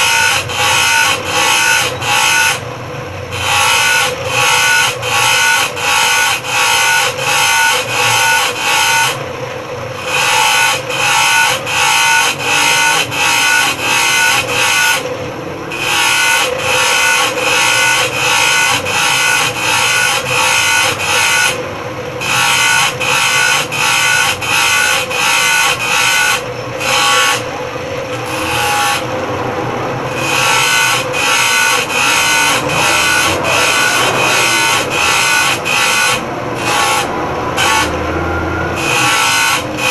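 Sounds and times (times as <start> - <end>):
bench grinder motor running: 0.0 - 39.9
grinder wheel grinding metal: 0.0 - 39.9.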